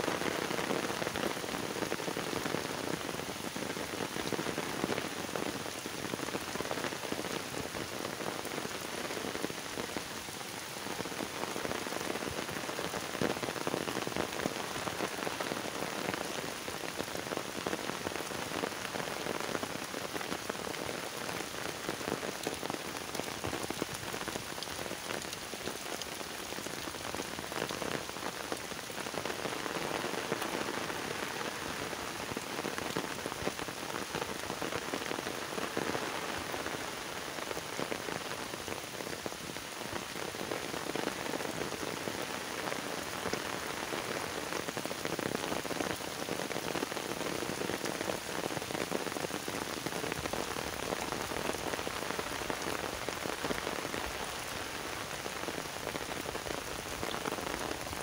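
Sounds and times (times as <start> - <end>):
heavy rain on water and trees: 0.0 - 58.0.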